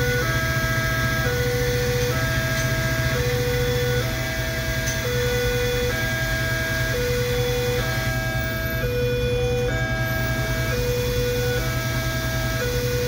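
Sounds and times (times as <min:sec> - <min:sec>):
idling engines hum: 0:00.0 - 0:13.0
two-tone crossing alarm: 0:00.0 - 0:13.0.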